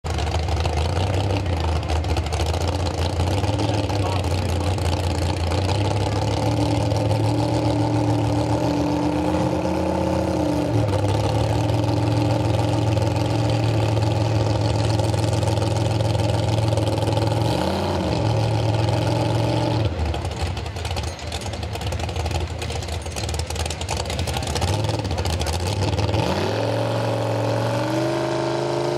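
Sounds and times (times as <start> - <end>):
crowd noise: 0.0 - 28.9
truck engine revving: 0.0 - 28.9.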